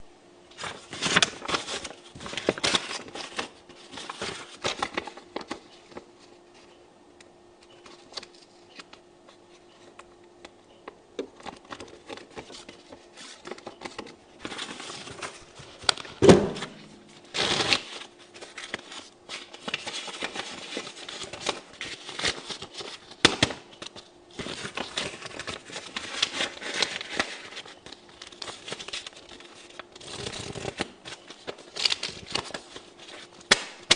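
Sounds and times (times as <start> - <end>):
faint steady hum: 0.0 - 33.9
banknotes rustling and crackling: 0.6 - 6.7, 11.2 - 33.9.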